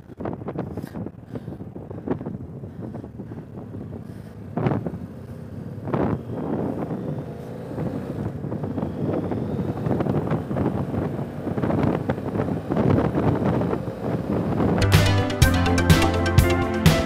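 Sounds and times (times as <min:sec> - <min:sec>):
wind rushing over microphone: 0:00.0 - 0:14.9
motorcycle engine accelerating: 0:00.3 - 0:17.0.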